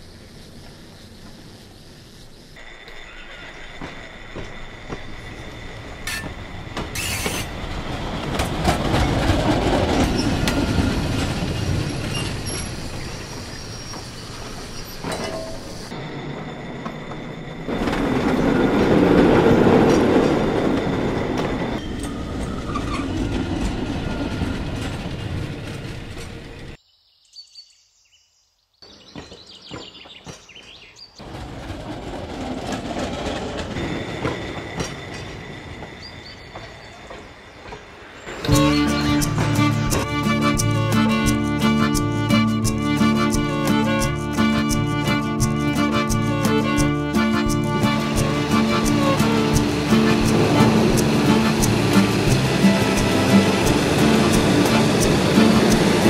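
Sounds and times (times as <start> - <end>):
railroad car wheels clattering: 2.6 - 26.8, 29.1 - 56.0.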